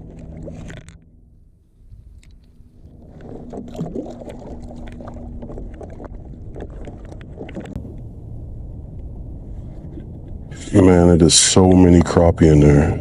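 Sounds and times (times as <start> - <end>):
low rumble: 0.0 - 13.0
steady low hum: 0.0 - 13.0.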